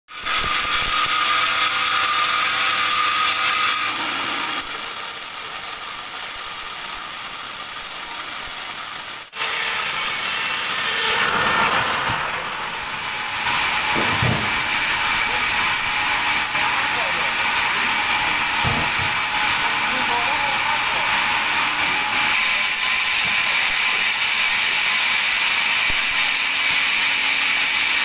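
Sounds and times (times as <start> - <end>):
band saw cutting log: 0.1 - 28.0.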